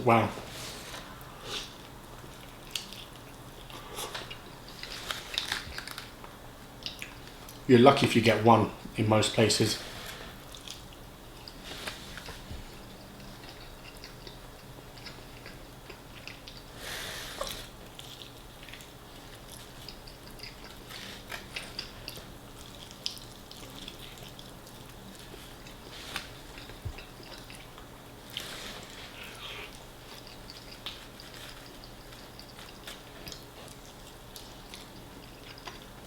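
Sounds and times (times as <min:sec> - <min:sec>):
person chewing fried chicken: 0:00.8 - 0:07.7, 0:10.0 - 0:36.0.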